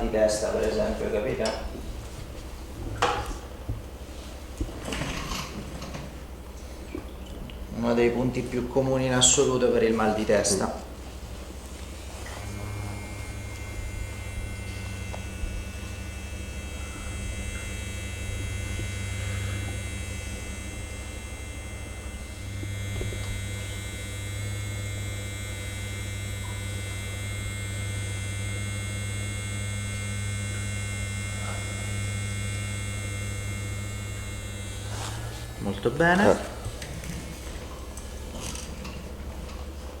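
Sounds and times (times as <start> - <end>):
low electrical hum: 0.0 - 40.0
faint high whine: 7.8 - 39.9.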